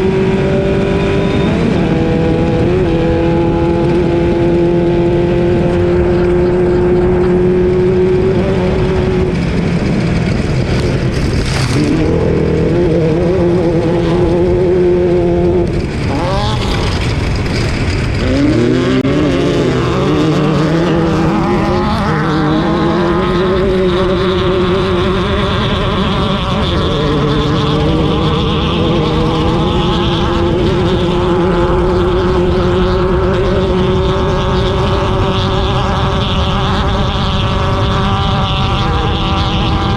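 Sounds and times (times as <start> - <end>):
race car engine revving: 0.0 - 39.9
wind noise: 0.0 - 39.9.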